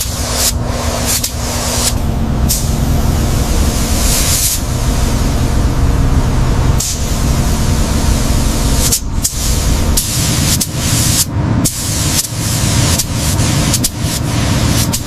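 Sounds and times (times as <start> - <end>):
loud rushing noise: 0.0 - 15.0
low engine hum: 0.0 - 15.0.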